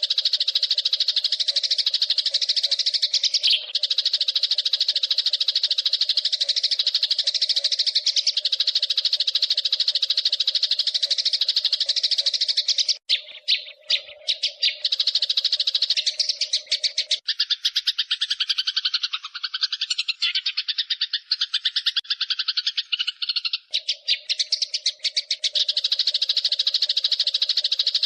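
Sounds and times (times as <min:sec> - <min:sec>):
sparrows chattering: 0:00.0 - 0:28.0.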